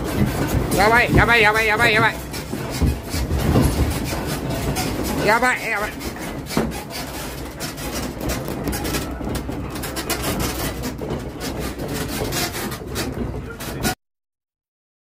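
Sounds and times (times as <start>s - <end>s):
building rattling and creaking: 0.0s - 14.0s.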